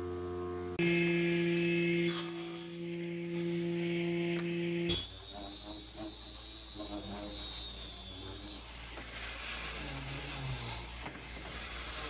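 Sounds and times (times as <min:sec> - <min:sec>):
power tool motor hum: 0:00.8 - 0:12.0.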